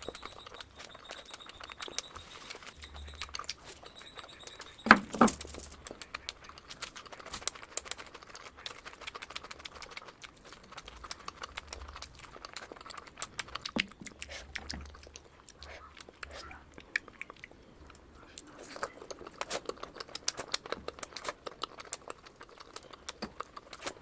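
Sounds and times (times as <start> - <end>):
wet chewing and lip-smacking: 0.0 - 24.0.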